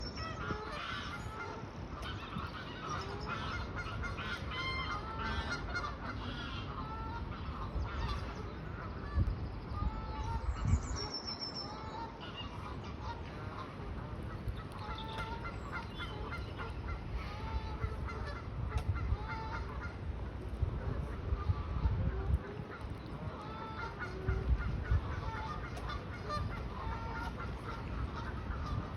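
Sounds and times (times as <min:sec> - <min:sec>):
birds honking: 0:00.0 - 0:28.9.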